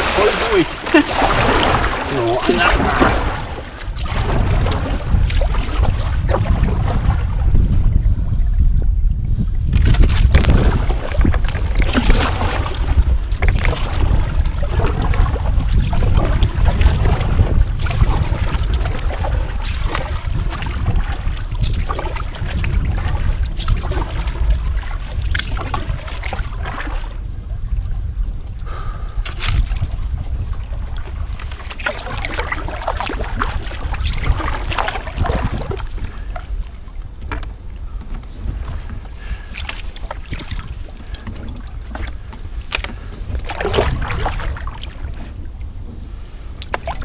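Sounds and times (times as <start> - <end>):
paddle strokes splashing water: 0.0 - 8.1, 9.6 - 47.0
wind rumble on microphone: 0.0 - 47.0.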